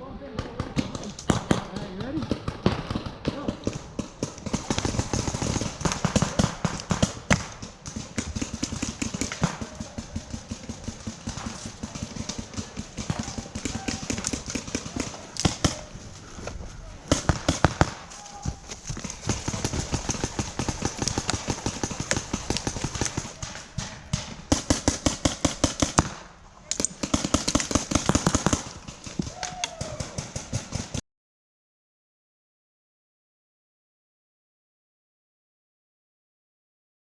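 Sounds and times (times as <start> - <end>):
paintball markers firing: 0.3 - 16.1, 17.1 - 31.0.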